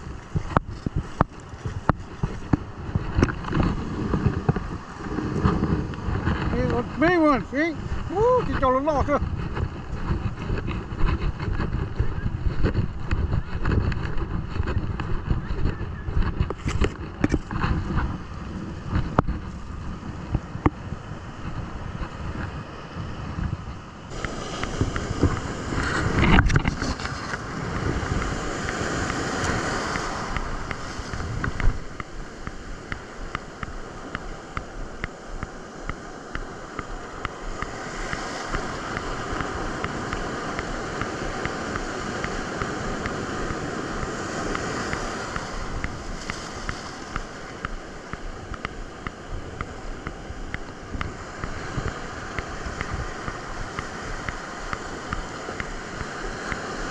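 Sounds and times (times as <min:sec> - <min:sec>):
ocean surf washing onto beach: 0:00.0 - 0:56.9
wind buffeting microphone: 0:00.0 - 0:56.9.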